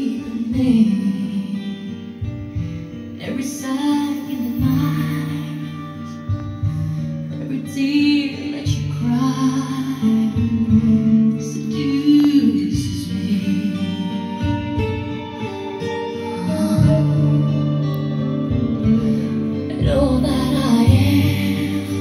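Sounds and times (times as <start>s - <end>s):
person singing: 0.0s - 2.4s, 3.1s - 22.0s
guitar music: 0.0s - 22.0s.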